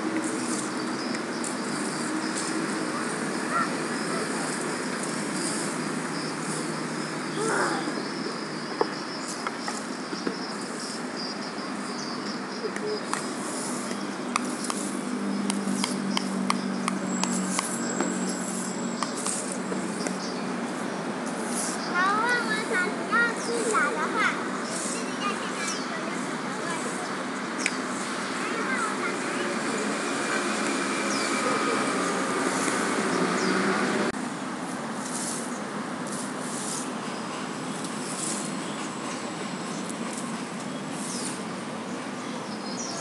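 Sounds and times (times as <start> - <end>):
twig broom sweeping paved floor: 0.0 - 43.0.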